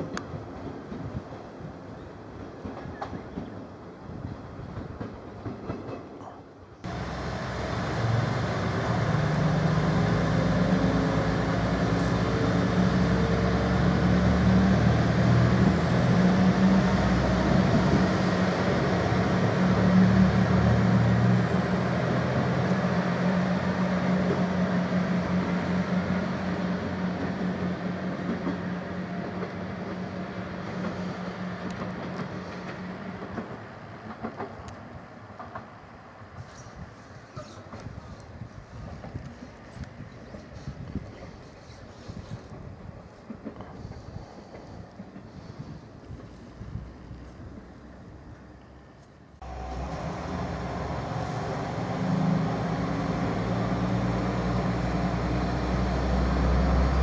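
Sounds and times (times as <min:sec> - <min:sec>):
diesel railcar engine: 0:00.0 - 0:57.0.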